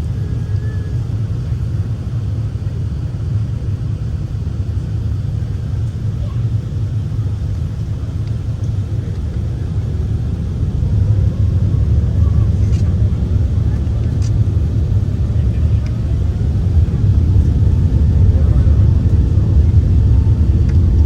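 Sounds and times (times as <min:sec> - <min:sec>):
airliner engines rumbling in cabin: 0:00.0 - 0:21.0.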